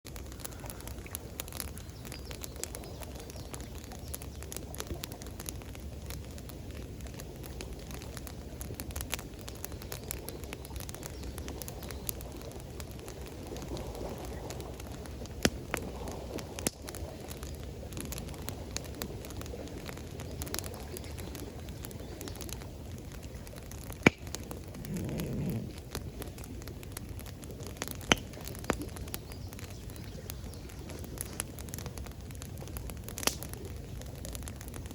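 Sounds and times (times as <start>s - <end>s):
campfire crackling: 0.0s - 34.9s
rushing water: 0.1s - 34.9s.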